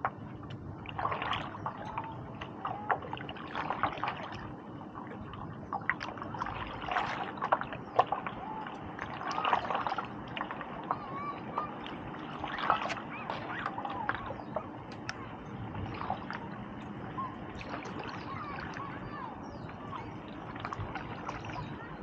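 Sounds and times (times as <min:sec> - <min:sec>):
paddle dripping: 0:00.0 - 0:22.0
paddle splashing water: 0:00.0 - 0:22.0.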